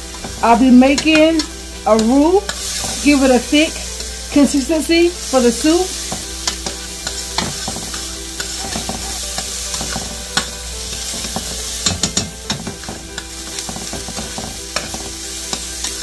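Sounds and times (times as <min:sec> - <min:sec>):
onions sizzling in butter: 0:00.0 - 0:16.0.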